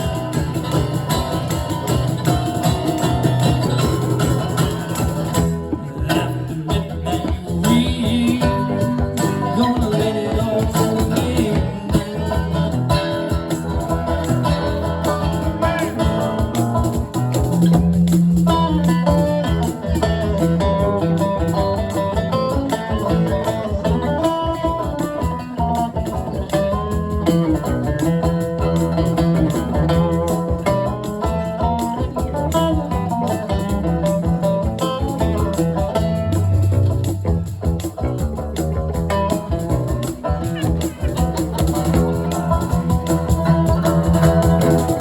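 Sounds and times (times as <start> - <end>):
electric guitar: 0.0 - 45.0
live band playing: 0.0 - 45.0.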